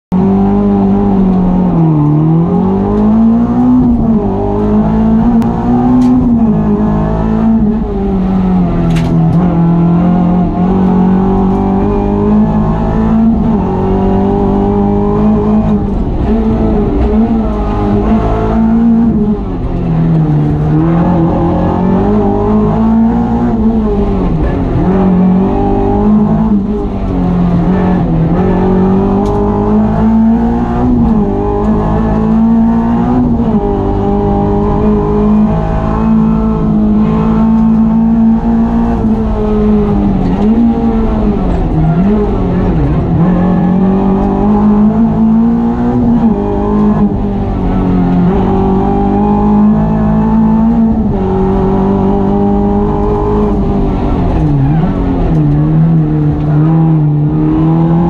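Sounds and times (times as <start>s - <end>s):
car engine revving with gear changes: 0.1s - 58.0s.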